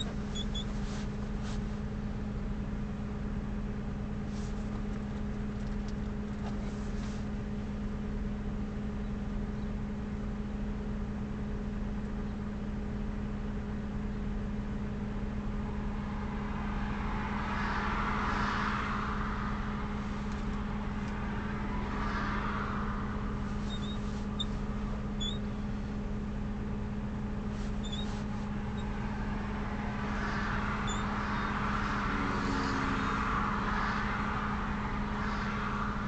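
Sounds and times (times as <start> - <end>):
vehicle engine idling: 0.0 - 36.0
vehicles passing by: 0.0 - 36.0.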